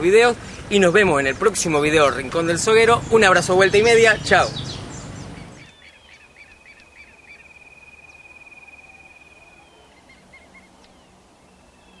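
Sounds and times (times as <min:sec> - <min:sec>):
faint birdsong trill: 0:00.4 - 0:12.0.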